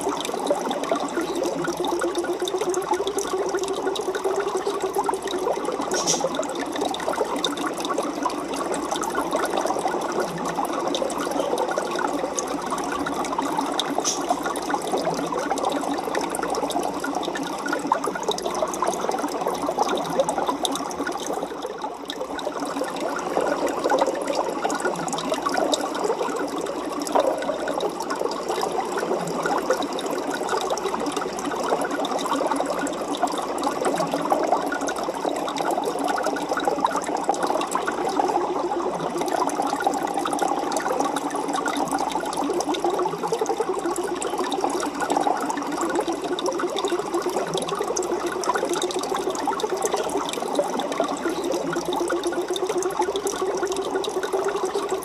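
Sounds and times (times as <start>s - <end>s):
aquarium water splashing and bubbling: 0.0s - 55.0s.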